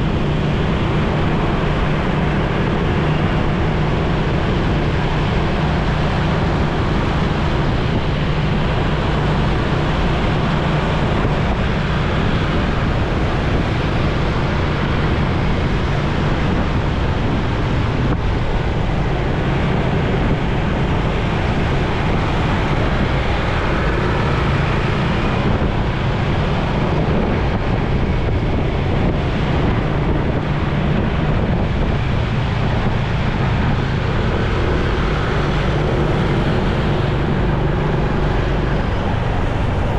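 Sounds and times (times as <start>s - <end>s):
motorcycle engine cruising: 0.0s - 39.9s
road and traffic noise: 0.0s - 39.9s
wind rush on microphone: 0.0s - 39.9s.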